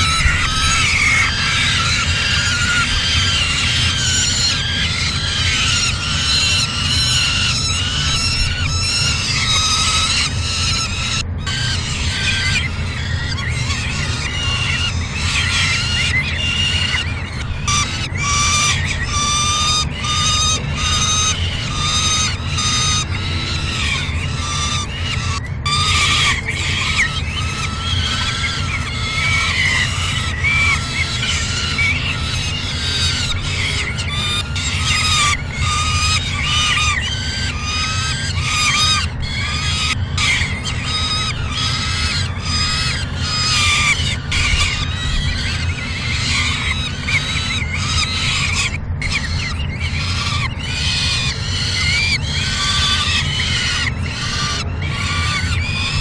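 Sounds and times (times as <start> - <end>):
low steady hum: 0.0 - 56.0
young falcons begging calls: 0.0 - 56.0.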